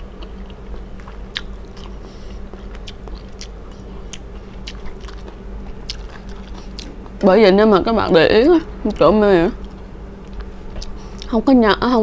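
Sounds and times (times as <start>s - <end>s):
chewing food: 0.0s - 7.2s, 8.9s - 11.3s.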